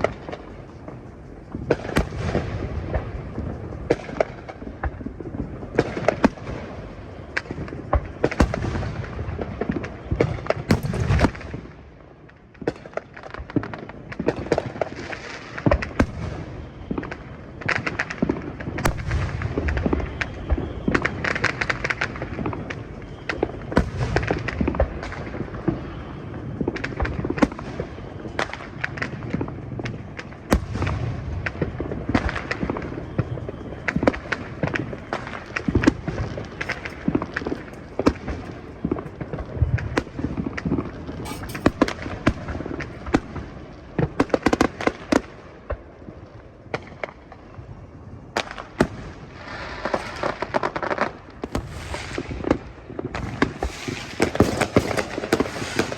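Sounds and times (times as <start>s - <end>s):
fireworks booming and crackling: 0.0s - 55.9s.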